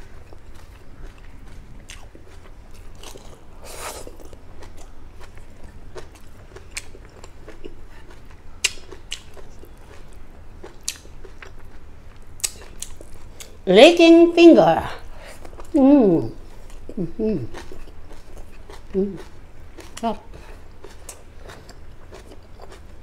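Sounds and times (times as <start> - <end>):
person chewing with mouth open: 0.0 - 13.6, 15.0 - 15.8, 16.4 - 23.0.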